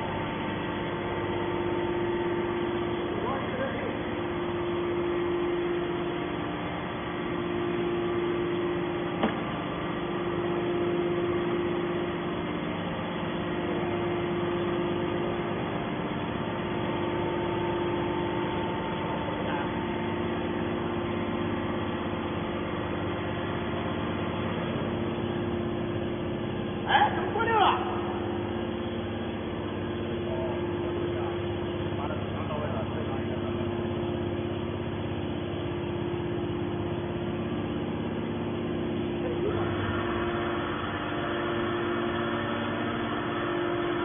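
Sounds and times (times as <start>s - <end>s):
hydraulic pump humming: 0.0s - 44.0s.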